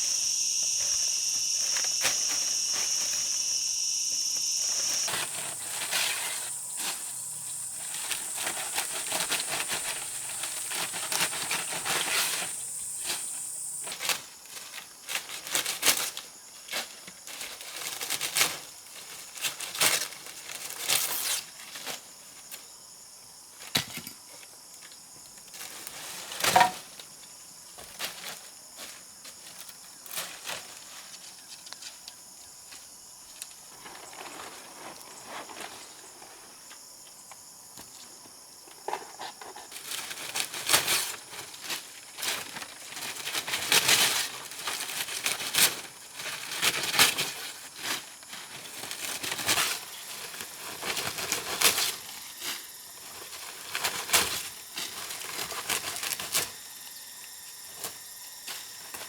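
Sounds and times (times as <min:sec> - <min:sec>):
insects buzzing: 0:00.0 - 0:16.6, 0:25.6 - 0:59.0
rustling and crinkling plants: 0:00.0 - 0:22.6, 0:25.4 - 0:36.8, 0:37.8 - 0:56.7.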